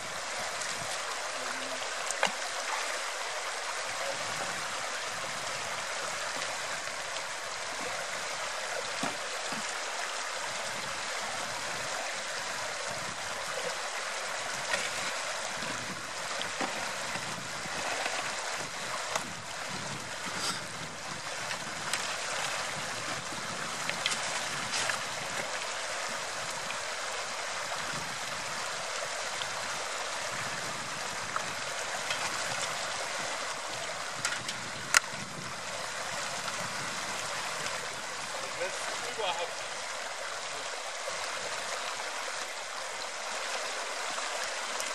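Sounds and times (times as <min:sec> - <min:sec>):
river running over stones: 0:00.0 - 0:44.9.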